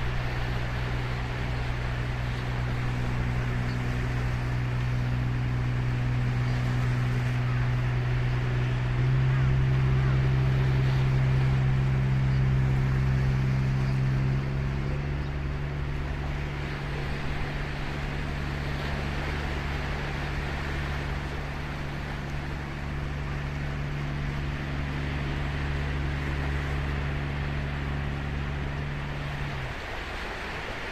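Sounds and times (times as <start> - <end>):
low engine drone: 0.0 - 30.9
surf washing: 0.0 - 30.9.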